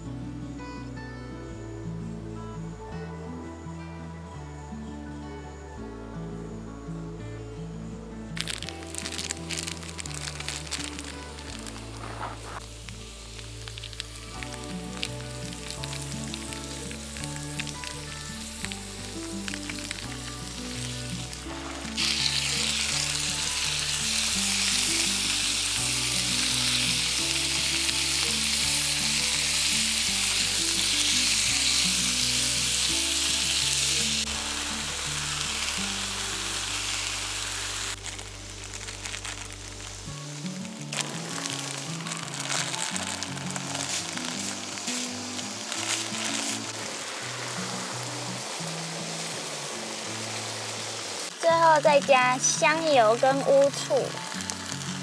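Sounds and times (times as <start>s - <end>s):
background music: 0.0s - 55.0s
food sizzling on griddle: 8.3s - 55.0s.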